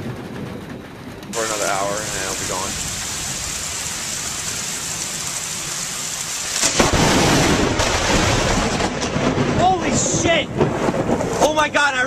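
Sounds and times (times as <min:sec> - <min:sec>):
lightning crack: 0:00.0 - 0:12.0
loud thunder: 0:00.0 - 0:12.0
heavy rain hissing: 0:01.3 - 0:11.7.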